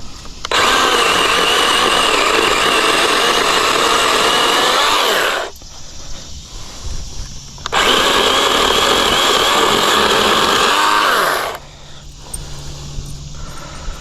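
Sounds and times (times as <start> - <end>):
battery chainsaw cutting brush: 0.0 - 14.0.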